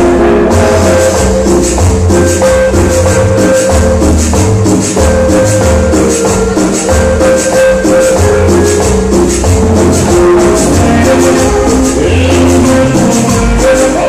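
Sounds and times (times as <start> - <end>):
loud dance music with shaker: 0.0 - 14.0.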